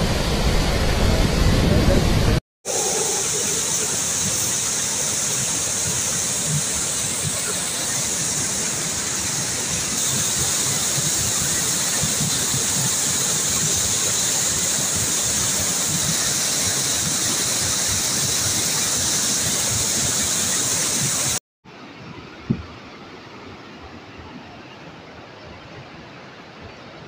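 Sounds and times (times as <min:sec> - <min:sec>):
flood water rushing down channel: 0:00.0 - 0:22.7.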